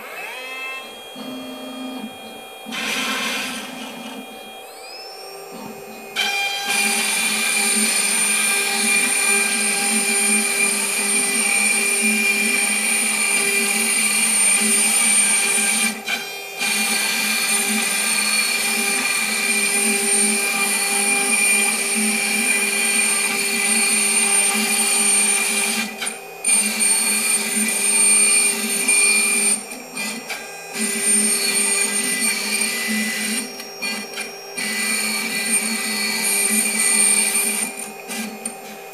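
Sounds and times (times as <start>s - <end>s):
router spindle high whine: 0.0s - 38.9s
router bit cutting wood: 6.1s - 38.7s.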